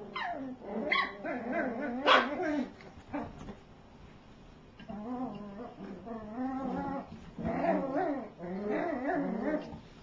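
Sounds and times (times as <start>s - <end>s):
puppies growling: 0.0s - 3.6s, 4.8s - 9.8s.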